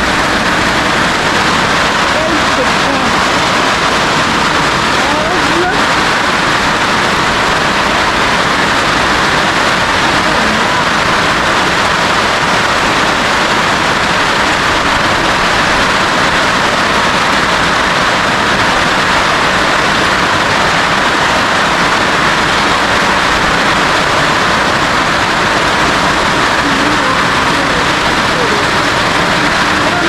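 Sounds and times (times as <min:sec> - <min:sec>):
heavy rain on a roof: 0:00.0 - 0:30.0.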